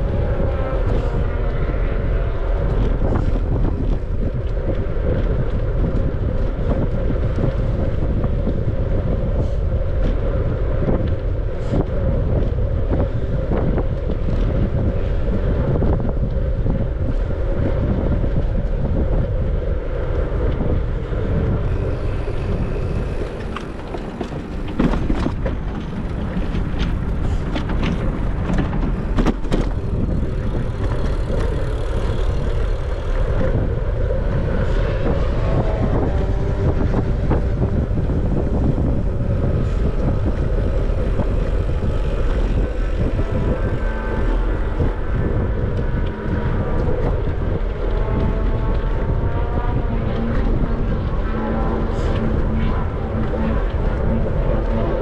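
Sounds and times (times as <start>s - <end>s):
steady low rumble: 0.0s - 55.0s
wind rushing over microphone: 0.0s - 55.0s.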